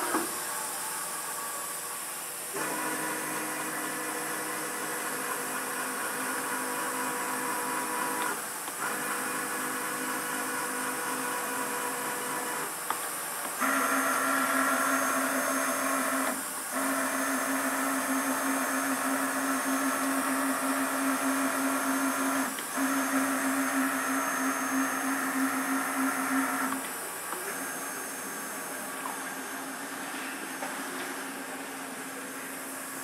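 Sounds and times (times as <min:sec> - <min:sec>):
machining centre motor hum: 0:00.0 - 0:33.0.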